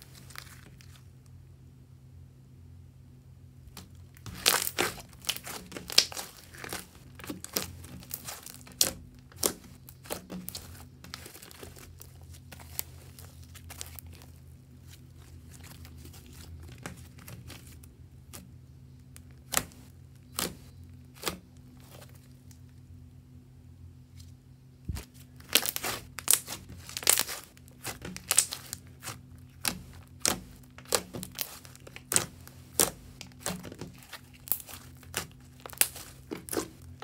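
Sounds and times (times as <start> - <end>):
faint low hum: 0.0 - 37.0
slime crackling and popping: 3.7 - 18.4, 19.2 - 22.2, 24.9 - 37.0.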